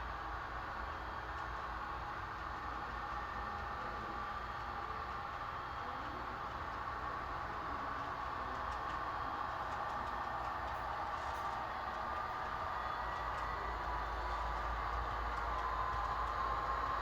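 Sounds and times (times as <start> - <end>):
model train running noise: 0.0 - 17.0
diesel engine sound from small speaker: 2.2 - 17.0.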